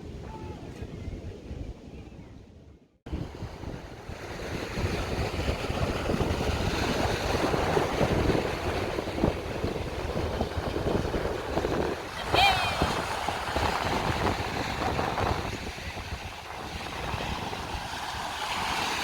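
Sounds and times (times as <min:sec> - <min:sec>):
wind buffeting microphone: 0:00.0 - 0:19.0
sea waves washing onto beach: 0:03.2 - 0:19.0.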